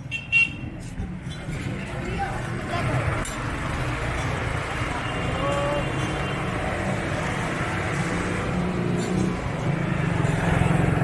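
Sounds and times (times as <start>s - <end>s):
traffic hum: 0.0s - 11.0s
motorcycle engines running: 1.1s - 11.0s.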